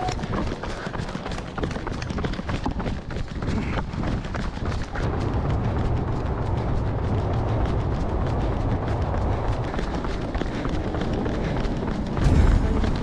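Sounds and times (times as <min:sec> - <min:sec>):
running footsteps on asphalt: 0:00.0 - 0:13.0
wind buffeting microphone: 0:00.0 - 0:13.0.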